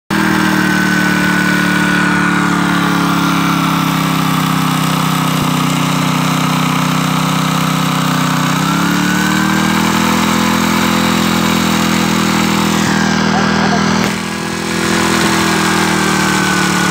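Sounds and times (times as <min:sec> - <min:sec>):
hydraulic pump engine running: 0:00.1 - 0:16.9.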